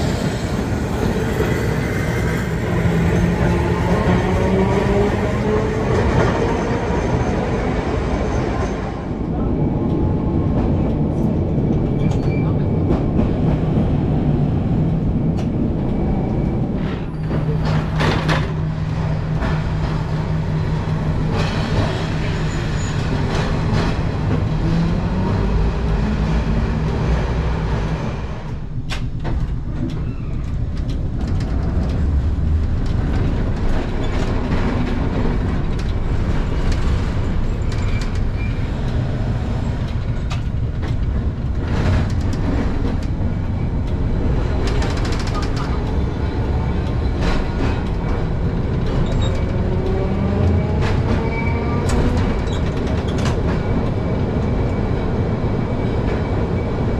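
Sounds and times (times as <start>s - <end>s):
tram wheels rumbling on rails: 0.0s - 56.9s.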